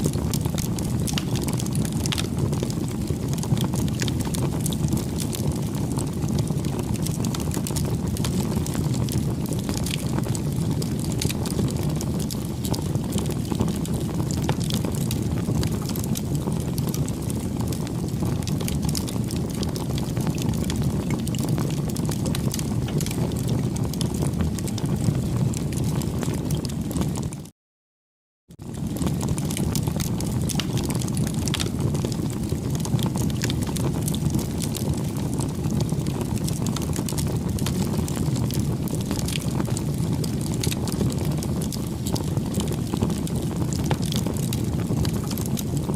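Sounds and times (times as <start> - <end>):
bonfire flames rushing: 0.0 - 27.5, 28.6 - 45.9
fire crackling and popping: 0.0 - 27.5, 28.5 - 45.9.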